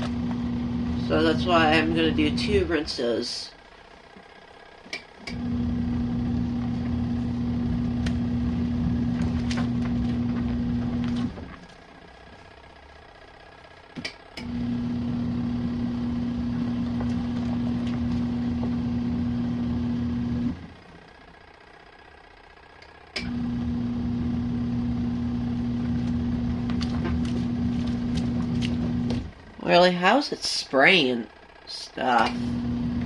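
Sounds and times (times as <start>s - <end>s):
washing machine motor humming: 0.0s - 33.0s.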